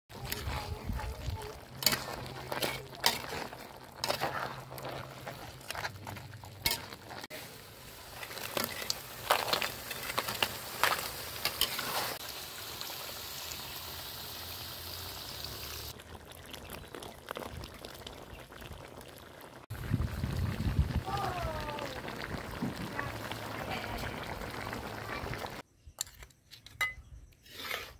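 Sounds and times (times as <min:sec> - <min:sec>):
food simmering and sizzling in a wok: 0:00.1 - 0:25.6.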